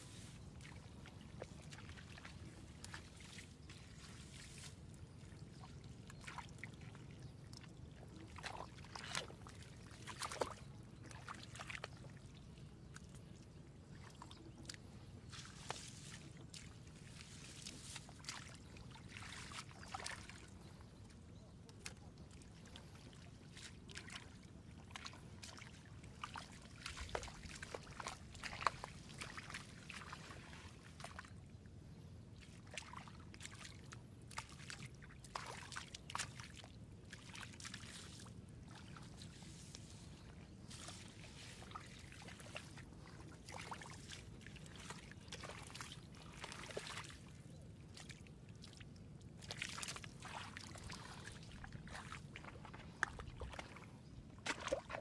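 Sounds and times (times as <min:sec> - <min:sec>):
hands squelching through mud: 0:00.0 - 0:07.0, 0:08.1 - 0:12.0, 0:13.9 - 0:20.6, 0:21.7 - 0:31.4, 0:32.4 - 0:47.3, 0:49.4 - 0:55.0.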